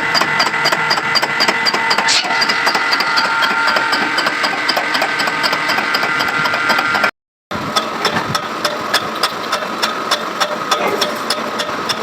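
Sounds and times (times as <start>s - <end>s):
machinery ticking clatter: 0.0s - 7.1s, 7.7s - 12.0s
steady machine hum: 0.0s - 12.0s.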